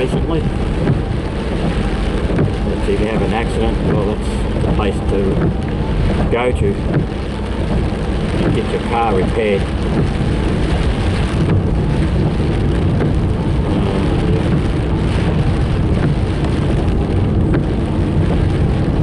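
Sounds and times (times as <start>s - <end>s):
car road and engine noise: 0.0s - 19.0s
heavy rain on car: 0.0s - 19.0s.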